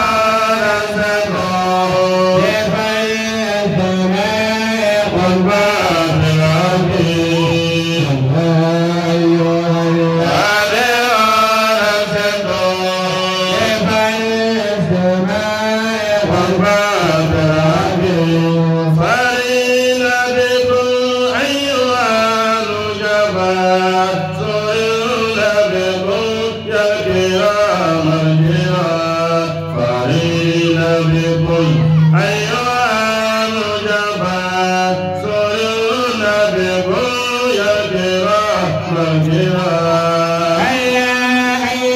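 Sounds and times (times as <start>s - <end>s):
man chanting devotional poem: 0.0s - 41.9s.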